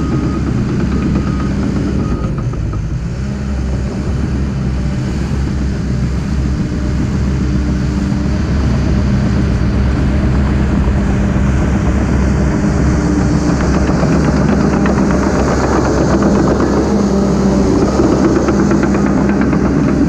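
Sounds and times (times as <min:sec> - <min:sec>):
bulldozer diesel engine under load: 0:00.0 - 0:20.0.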